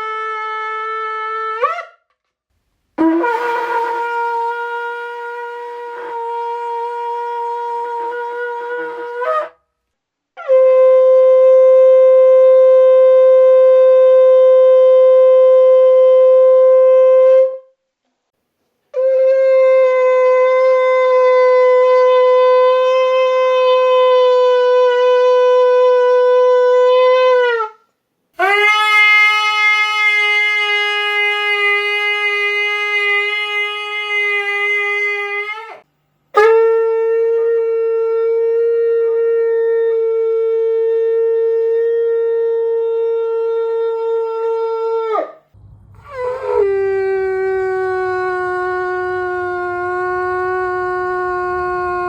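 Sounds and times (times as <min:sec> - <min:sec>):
shofar blasts: 0:00.0 - 0:02.0, 0:03.0 - 0:09.6, 0:10.4 - 0:17.7, 0:18.9 - 0:27.8, 0:28.4 - 0:35.8, 0:36.4 - 0:52.0.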